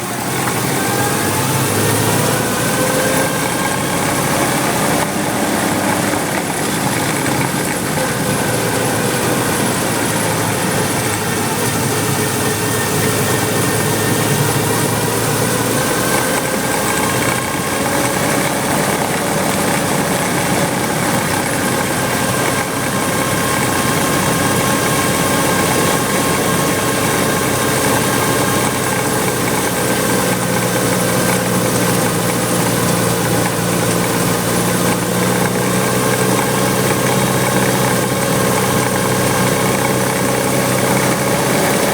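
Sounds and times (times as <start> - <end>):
clutch squealing: 0.0 - 41.9
engine idling: 0.0 - 41.9.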